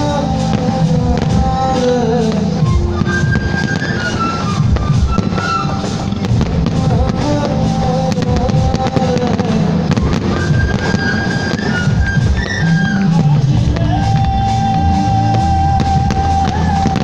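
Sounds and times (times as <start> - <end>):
fireworks bursting and crackling: 0.0 - 17.0
music with held melody: 0.0 - 17.0.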